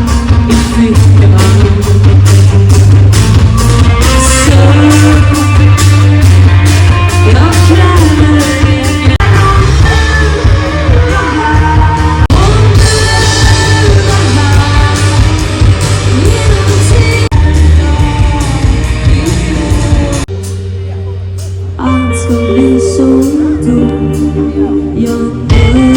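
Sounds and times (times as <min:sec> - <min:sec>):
heavy bass line: 0:00.0 - 0:25.9
music with singing: 0:00.0 - 0:25.9.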